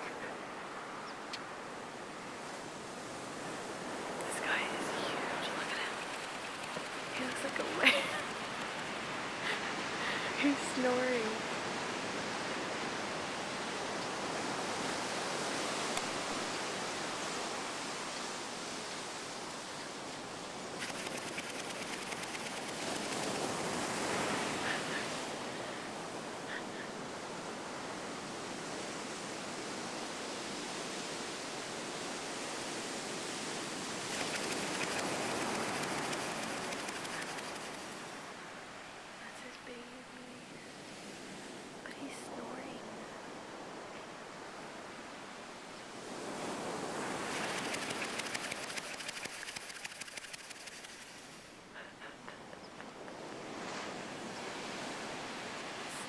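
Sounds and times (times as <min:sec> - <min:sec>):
ocean surf washing on beach: 0:00.0 - 0:56.0.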